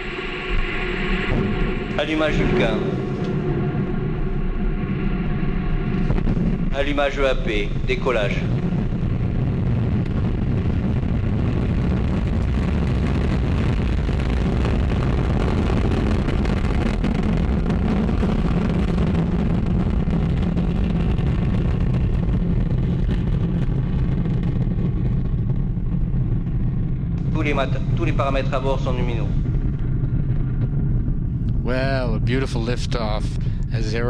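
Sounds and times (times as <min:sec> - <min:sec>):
rocket engine rumble with crackling: 0:00.0 - 0:34.0.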